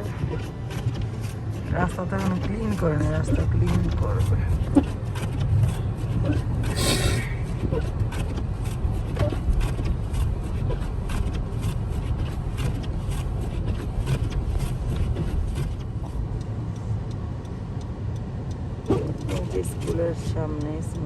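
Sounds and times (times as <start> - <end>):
car rumbling along street: 0.0 - 21.0.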